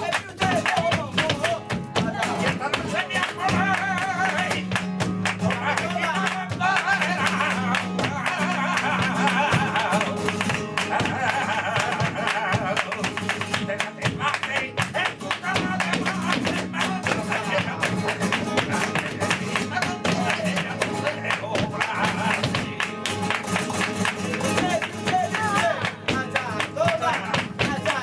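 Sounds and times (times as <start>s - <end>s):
flamenco guitar: 0.0s - 28.0s.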